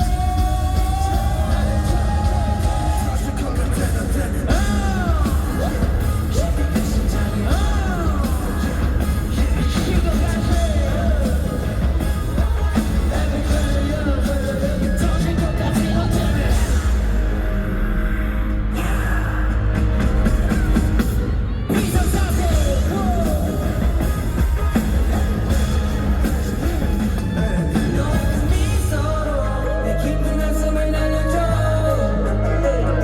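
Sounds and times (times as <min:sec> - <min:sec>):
amplified pop song with bass: 0:00.0 - 0:33.0
person singing: 0:00.0 - 0:33.0.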